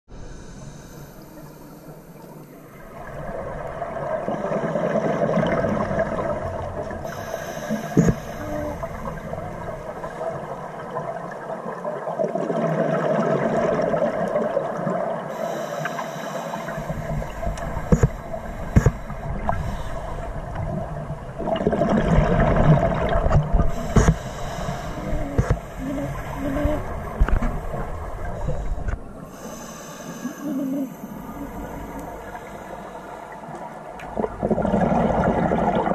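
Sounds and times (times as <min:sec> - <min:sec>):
steady watery background: 0:00.1 - 0:35.9
underwater exhaled bubbles: 0:00.3 - 0:35.9.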